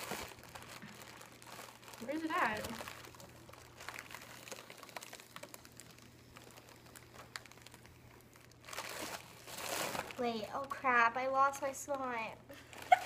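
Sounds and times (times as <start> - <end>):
faint low hum: 0.0 - 13.0
foil balloon crinkling: 0.0 - 13.0.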